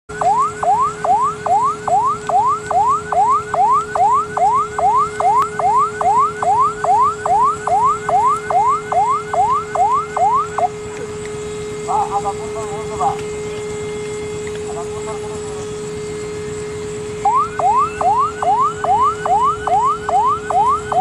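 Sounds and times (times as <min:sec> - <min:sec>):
electronic siren yelping: 0:00.1 - 0:21.0.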